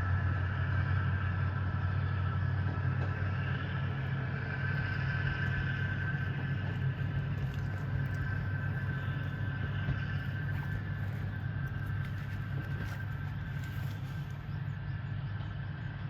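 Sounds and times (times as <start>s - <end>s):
railcar diesel engines running: 0.0s - 16.0s.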